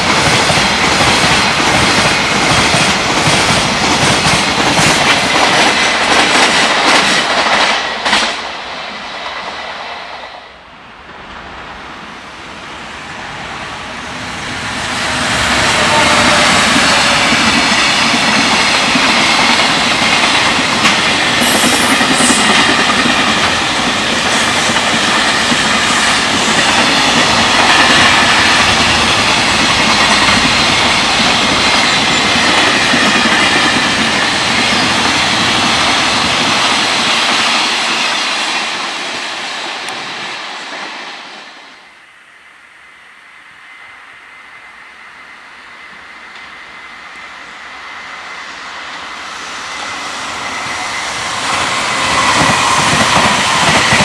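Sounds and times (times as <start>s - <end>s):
freight train wheels rumbling: 0.0s - 42.1s, 42.7s - 54.0s.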